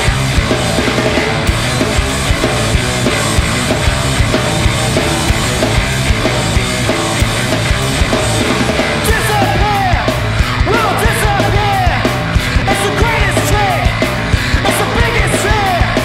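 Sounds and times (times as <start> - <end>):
drums: 0.0 - 16.0
heavy guitars: 0.0 - 16.0.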